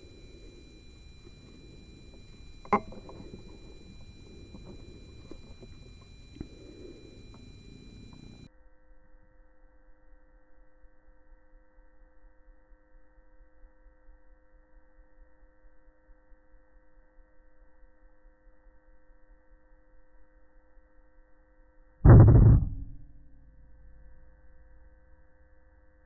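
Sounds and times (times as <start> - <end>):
faint hum of held tones: 0.0 - 26.0.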